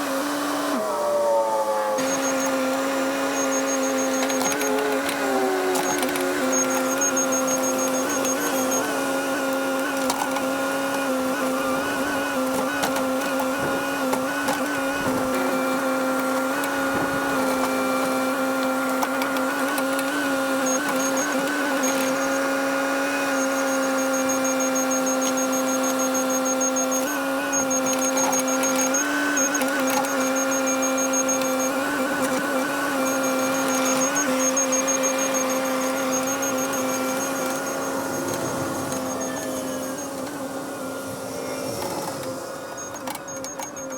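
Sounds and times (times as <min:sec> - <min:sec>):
excavator engine whining: 0:00.0 - 0:43.9.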